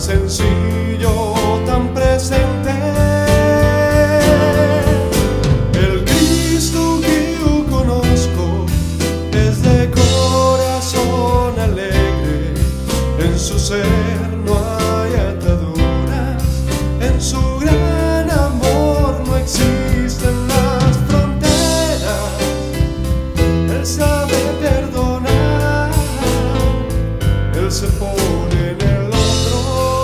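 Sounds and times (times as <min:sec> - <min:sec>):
instrumental music with bass: 0:00.0 - 0:30.0.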